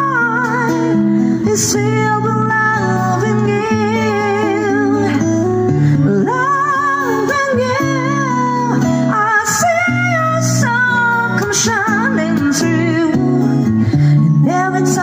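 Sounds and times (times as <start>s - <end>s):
fingerpicked acoustic guitar: 0.0s - 15.0s
woman singing with vibrato: 0.0s - 15.0s.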